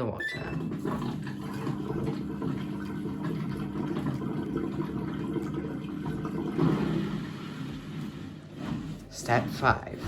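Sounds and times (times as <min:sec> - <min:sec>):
washing machine drain pump hum: 0:00.0 - 0:10.0.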